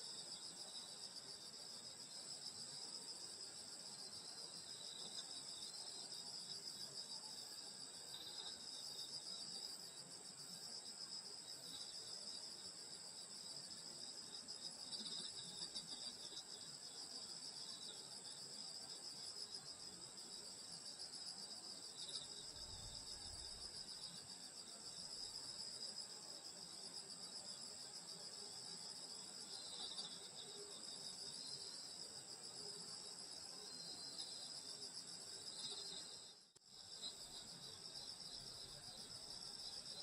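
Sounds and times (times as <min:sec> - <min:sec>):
faint insect chirps: 0:00.0 - 0:40.0.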